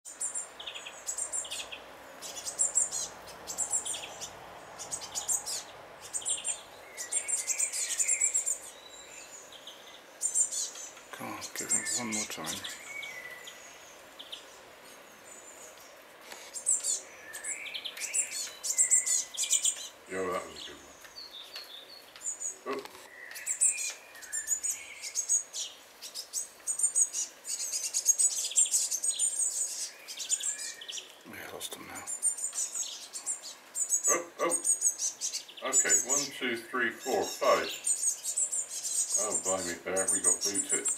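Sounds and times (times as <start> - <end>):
fledgling bird begging chirps: 0.1 - 15.8, 16.5 - 40.9.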